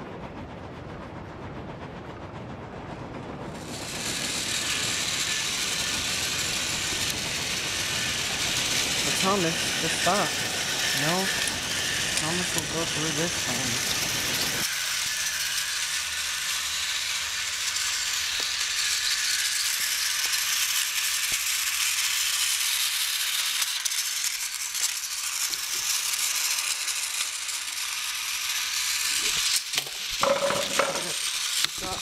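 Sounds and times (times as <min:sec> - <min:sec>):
toy train motors whirring and rattling: 0:03.6 - 0:32.0.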